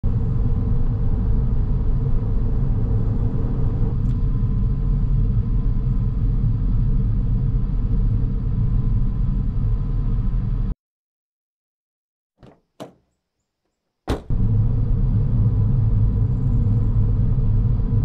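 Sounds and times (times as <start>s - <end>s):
car engine and road noise: 0.0s - 10.7s, 14.1s - 18.0s.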